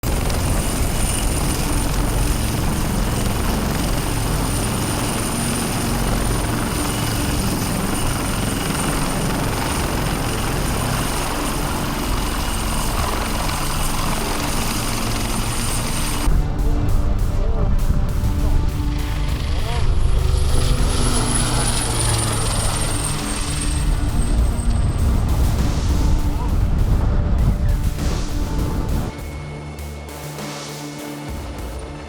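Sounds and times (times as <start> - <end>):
helicopter rotor and engine rumble: 0.0 - 32.0
high whine: 0.0 - 32.0.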